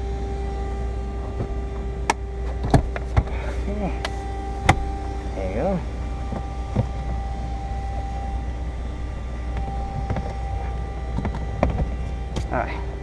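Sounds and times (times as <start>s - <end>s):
faint steady whine: 0.0s - 13.0s
low machine hum: 0.0s - 13.0s.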